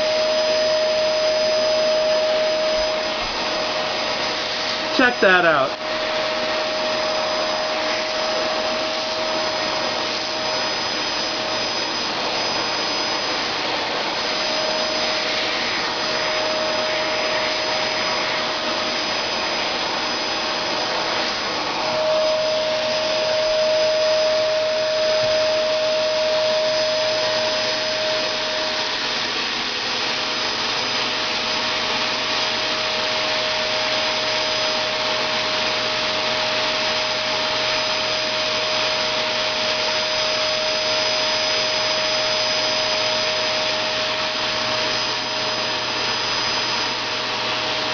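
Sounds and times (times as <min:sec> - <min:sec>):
vacuum cleaner whining: 0:00.0 - 0:47.9.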